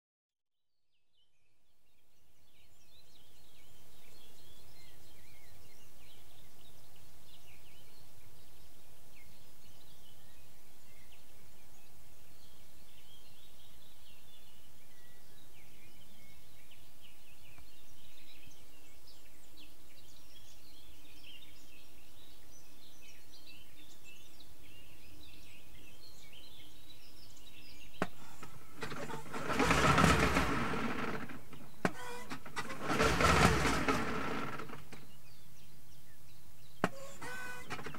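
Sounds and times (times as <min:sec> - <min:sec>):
small birds chirping: 0:00.8 - 0:37.9.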